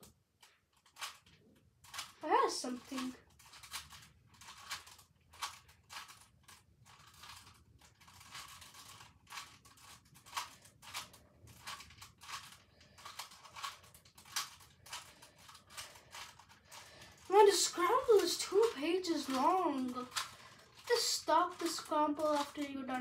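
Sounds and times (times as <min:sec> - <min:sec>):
speed cube clicking: 0:00.4 - 0:23.0.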